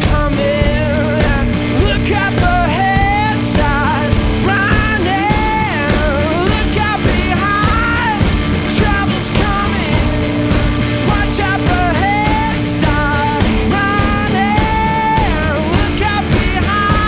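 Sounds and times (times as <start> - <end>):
driving drum beat: 0.0 - 17.0
guitar: 0.0 - 17.0
person singing: 0.0 - 17.0.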